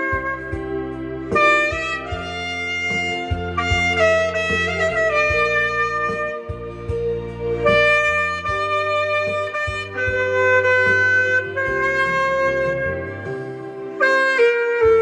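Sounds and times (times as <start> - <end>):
bass notes and light beats: 0.0 - 15.0
saxophone playing hymn melody: 0.0 - 15.0.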